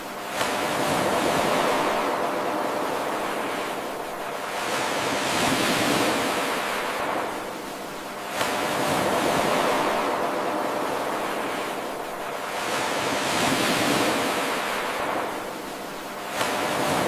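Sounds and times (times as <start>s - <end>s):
ocean waves on shore: 0.0s - 17.0s.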